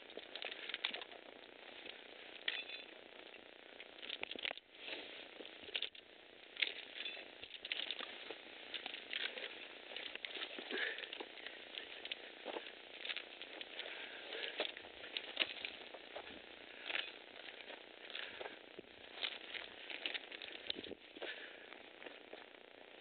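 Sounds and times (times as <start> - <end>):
footsteps on rock and gravel: 0.0 - 2.9, 3.8 - 23.0
steady hiss: 0.0 - 23.0.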